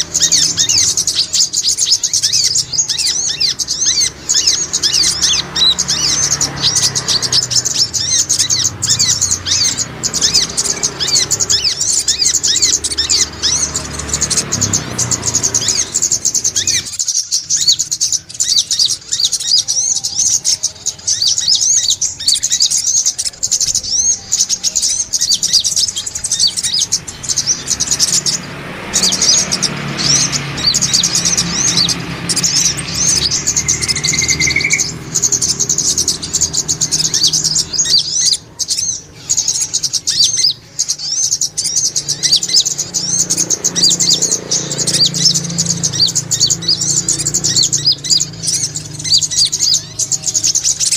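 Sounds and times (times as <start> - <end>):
sunbirds chirping high notes: 0.0 - 50.9.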